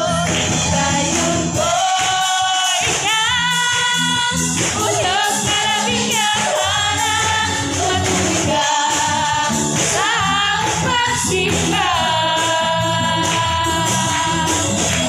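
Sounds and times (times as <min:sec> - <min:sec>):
drums: 0:00.0 - 0:15.0
guitar: 0:00.0 - 0:15.0
person singing: 0:00.0 - 0:15.0.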